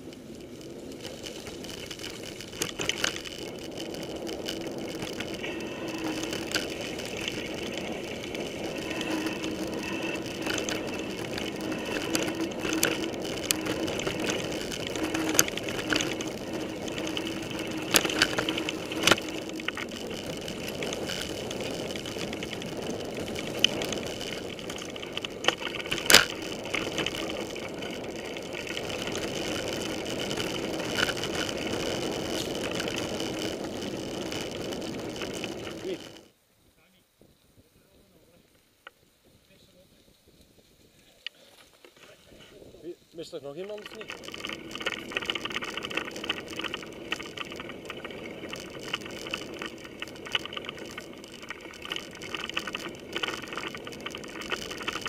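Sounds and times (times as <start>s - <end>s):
bike tyres and drivetrain rumble: 0.0s - 55.0s.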